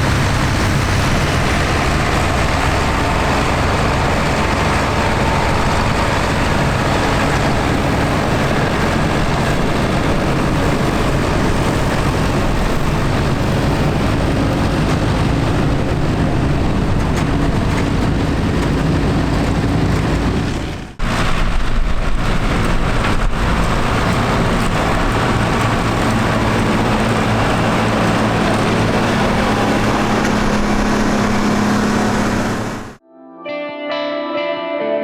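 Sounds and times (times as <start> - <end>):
heavy engine rumbling: 0.0 - 33.0.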